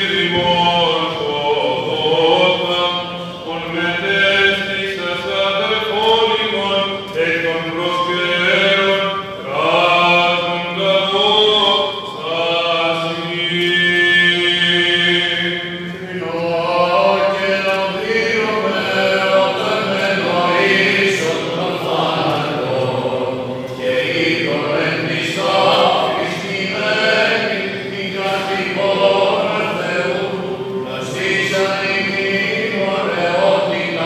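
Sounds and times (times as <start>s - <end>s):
men chanting slow melody: 0.0s - 34.0s
steady vocal drone: 0.0s - 34.0s.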